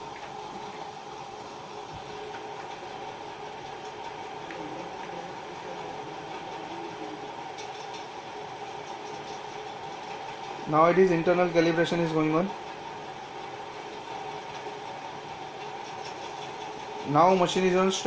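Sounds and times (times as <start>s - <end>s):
faint constant whine: 0.0s - 18.0s
steady background hum: 0.0s - 18.0s.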